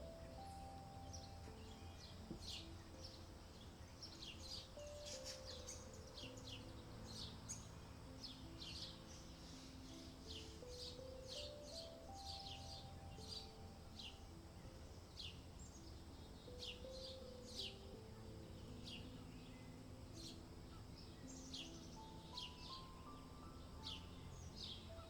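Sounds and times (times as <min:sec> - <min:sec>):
gentle background music: 0:00.0 - 0:25.0
small bird chirps: 0:00.0 - 0:25.0.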